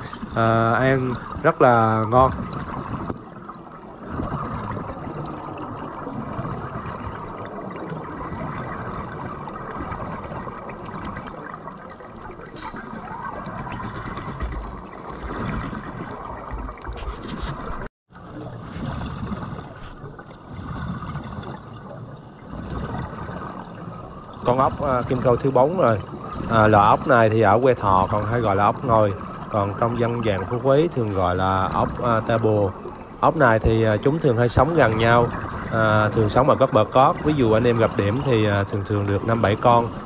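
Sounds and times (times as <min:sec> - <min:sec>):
muffled underwater noise: 0:00.0 - 0:20.4, 0:22.6 - 0:40.0
gurgling air bubbles: 0:00.0 - 0:40.0.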